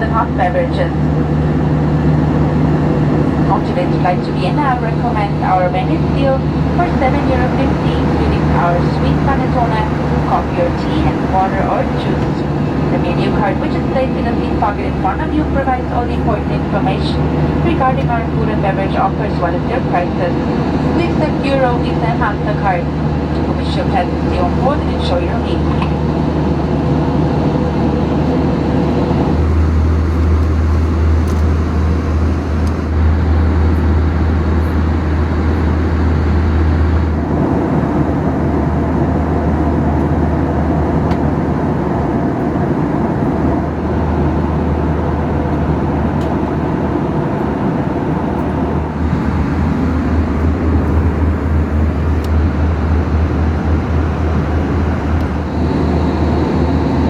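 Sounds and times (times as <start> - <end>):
aircraft cabin engine noise: 0.0 - 57.0.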